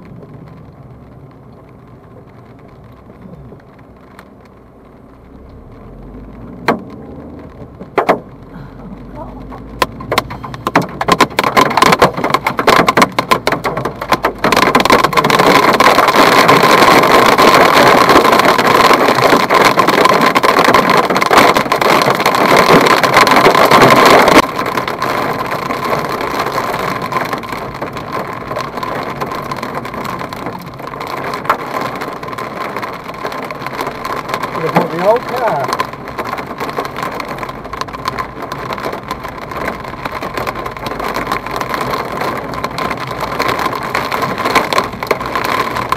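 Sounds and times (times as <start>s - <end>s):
hail clattering on car roof: 6.6s - 45.9s.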